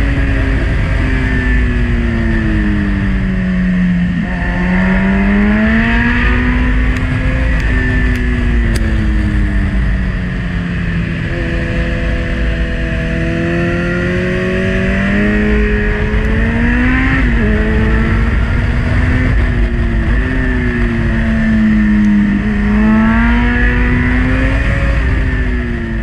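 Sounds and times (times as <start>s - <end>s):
motorcycle engine revving: 0.0s - 26.0s
wind rush on microphone: 0.0s - 26.0s.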